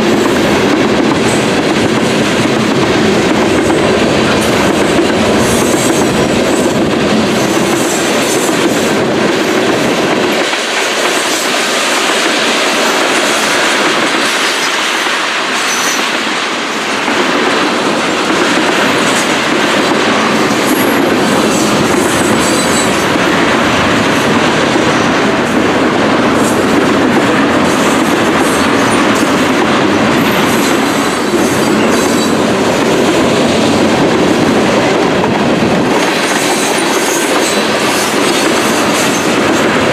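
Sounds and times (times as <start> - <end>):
freight train rolling past: 0.0 - 39.9
wheels clacking over rails: 0.0 - 39.9.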